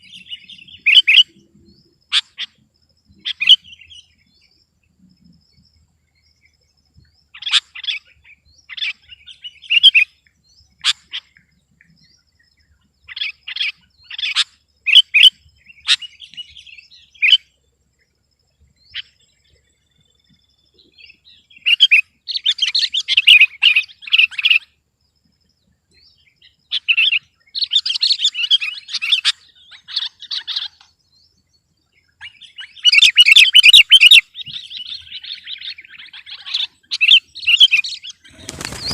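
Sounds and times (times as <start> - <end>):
bulbul singing: 0.0 - 17.6, 18.6 - 38.9.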